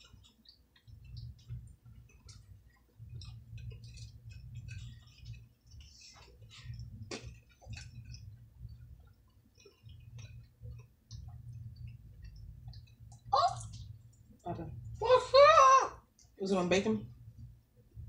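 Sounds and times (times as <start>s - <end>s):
chewing and mouth smacks: 0.0s - 14.5s.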